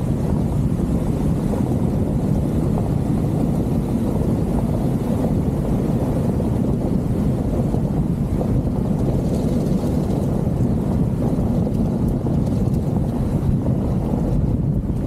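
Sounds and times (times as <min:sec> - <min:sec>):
car driving on gravel: 0:00.0 - 0:15.0
wind buffeting microphone: 0:00.0 - 0:15.0.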